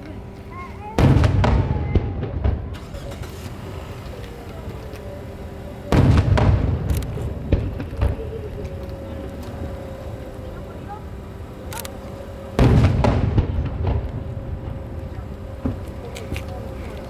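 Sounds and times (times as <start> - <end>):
fireworks cracks: 0.6 - 17.0
fireworks boom: 1.0 - 11.6, 12.2 - 17.0.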